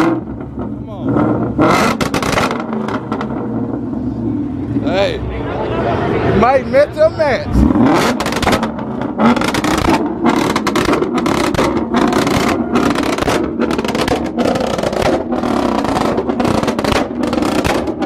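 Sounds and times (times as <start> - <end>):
car engine revving loudly: 0.0 - 5.0, 7.4 - 18.0.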